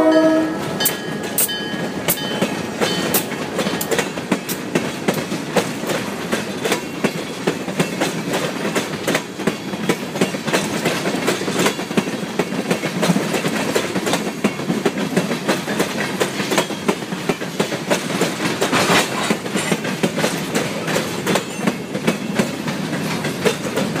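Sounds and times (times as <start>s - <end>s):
train rolling rumble: 0.0s - 24.0s
train wheels clacking over rail joints: 0.6s - 24.0s.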